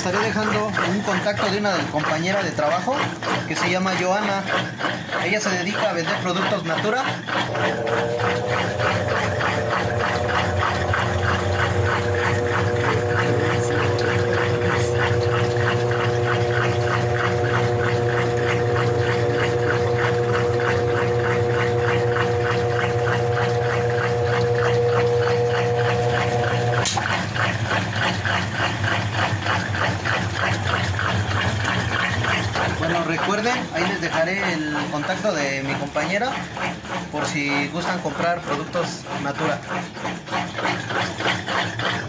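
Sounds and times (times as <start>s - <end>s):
basket spinning whir: 0.0s - 34.8s
washing machine motor whine: 0.0s - 42.0s.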